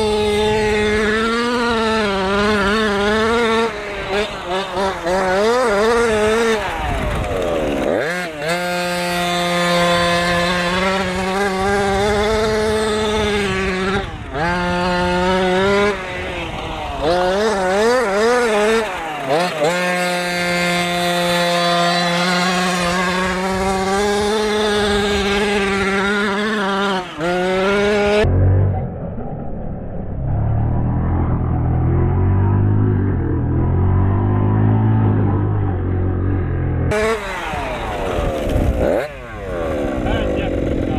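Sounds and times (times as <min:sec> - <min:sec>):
two-stroke engine at high revs: 0:00.0 - 0:28.8, 0:30.8 - 0:40.9.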